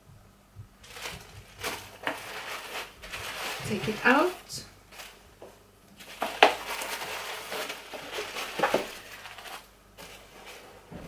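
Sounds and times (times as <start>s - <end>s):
packaging rustling and crinkling: 0.8s - 5.2s, 5.9s - 10.9s.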